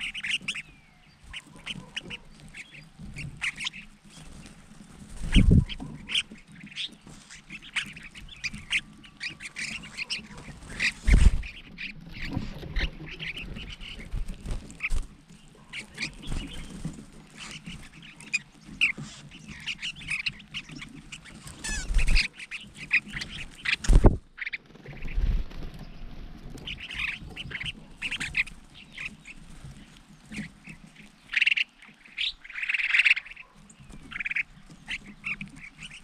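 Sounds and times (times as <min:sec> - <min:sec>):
birds chirping and chattering: 0:00.0 - 0:36.0.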